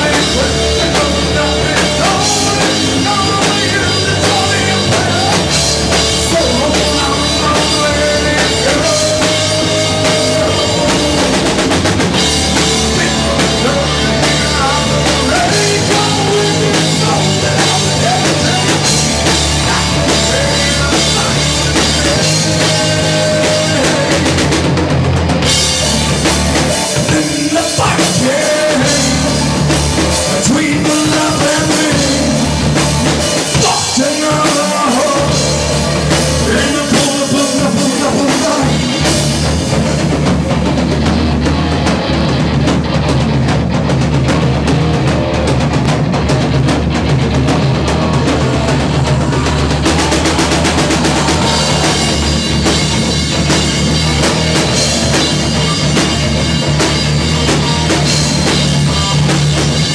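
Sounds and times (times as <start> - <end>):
drum kit: 0.0 - 59.9
rock band playing live: 0.0 - 59.9.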